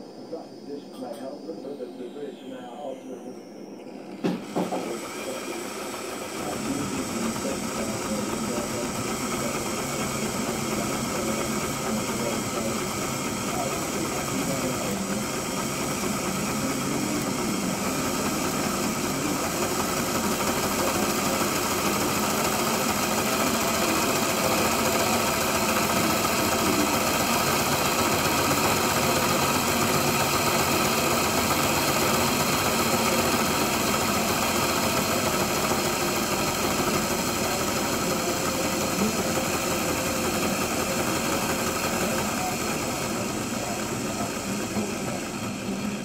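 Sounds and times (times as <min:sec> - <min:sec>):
model locomotive motor whirring: 0:03.2 - 0:46.0.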